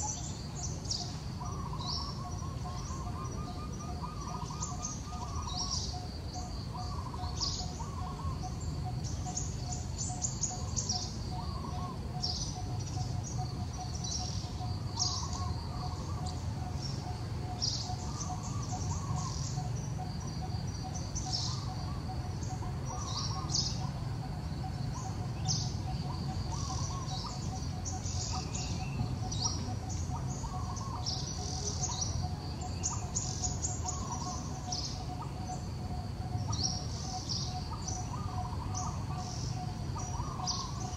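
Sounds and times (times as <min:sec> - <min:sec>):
low background noise: 0:00.0 - 0:40.9
small birds chirping: 0:00.0 - 0:40.9.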